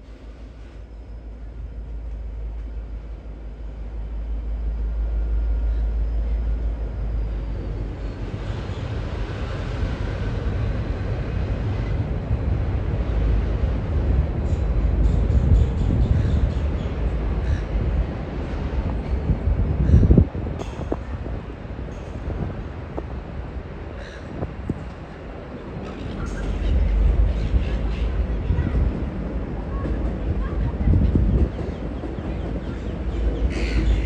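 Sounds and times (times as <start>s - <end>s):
diesel locomotive engine rumble: 0.0s - 34.0s
rushing noise of moving train: 0.0s - 34.0s.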